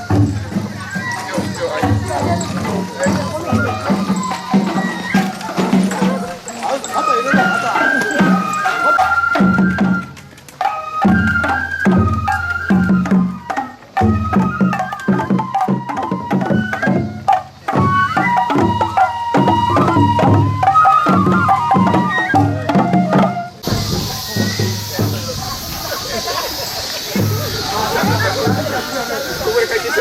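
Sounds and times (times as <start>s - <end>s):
bamboo flute melody: 0.0s - 30.0s
drum beats: 0.0s - 30.0s.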